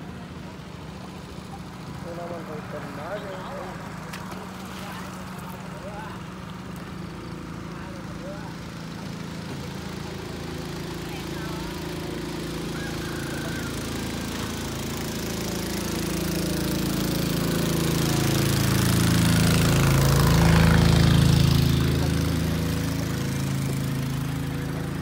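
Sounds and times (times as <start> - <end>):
boat engine chugging: 0.0 - 25.0.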